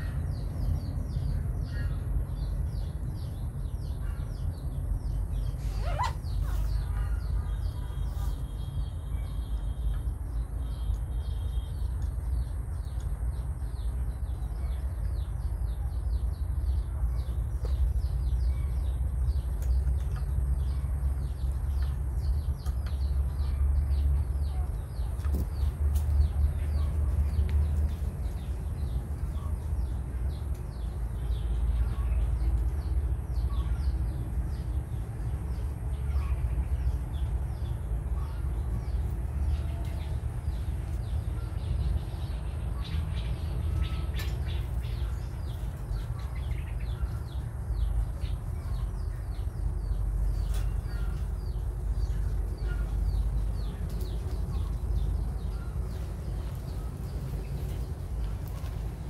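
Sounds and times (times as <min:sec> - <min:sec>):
small birds chirping: 0:00.0 - 0:59.0
steady low rumble: 0:00.0 - 0:59.0.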